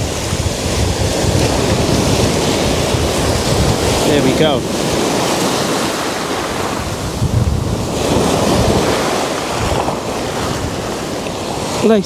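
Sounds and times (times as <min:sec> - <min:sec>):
surf washing over sand and rocks: 0:00.0 - 0:12.0.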